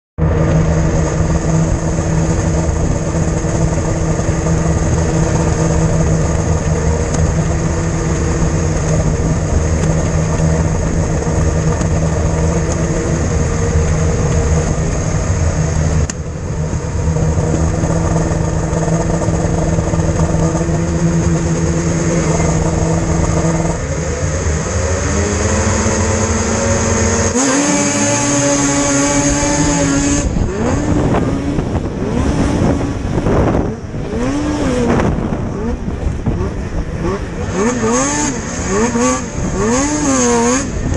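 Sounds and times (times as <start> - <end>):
snowmobile engines idling: 0.2 - 40.9
snowmobile engines revving: 0.2 - 40.9.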